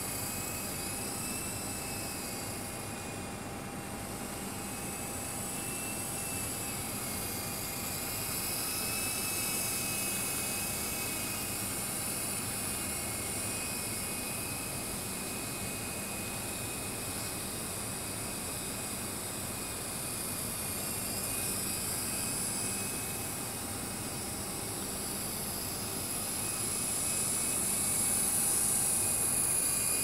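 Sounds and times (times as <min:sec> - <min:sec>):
model helicopter whine: 0:00.0 - 0:30.0.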